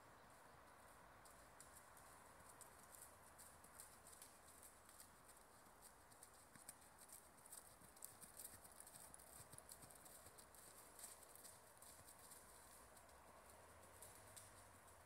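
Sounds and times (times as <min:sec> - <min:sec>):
horse hoofbeats on grass: 0:00.7 - 0:15.0.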